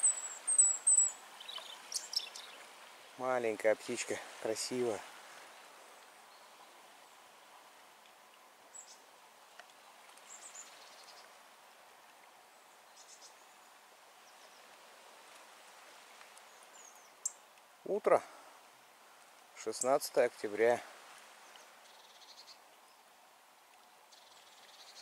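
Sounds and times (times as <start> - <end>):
songbird chirping: 0.0 - 20.3, 21.2 - 25.0
steady hiss: 0.0 - 25.0.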